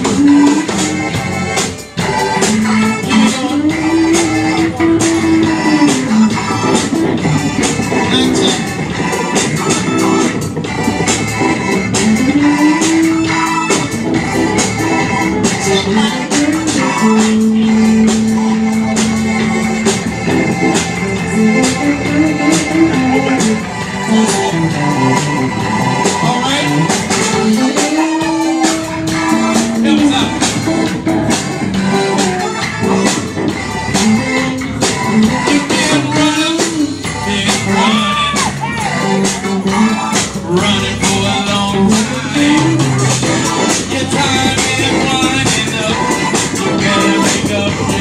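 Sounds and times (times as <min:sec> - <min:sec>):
gospel church band music: 0:00.0 - 0:48.0
organ chords: 0:00.0 - 0:48.0
steady beat: 0:00.0 - 0:48.0.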